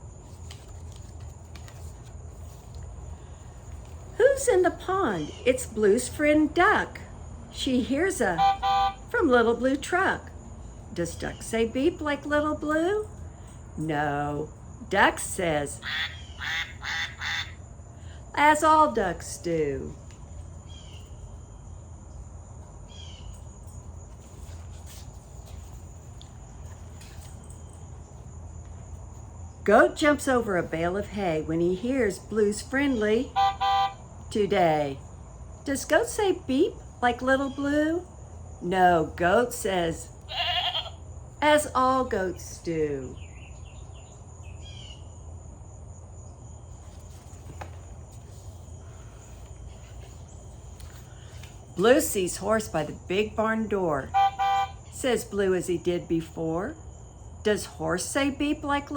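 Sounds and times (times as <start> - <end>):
crickets chirring: 0.0 - 58.9
low steady hum: 0.0 - 58.9.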